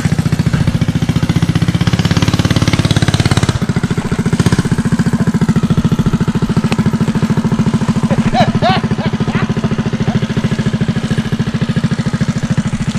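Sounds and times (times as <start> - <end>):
small engine running: 0.0 - 12.9.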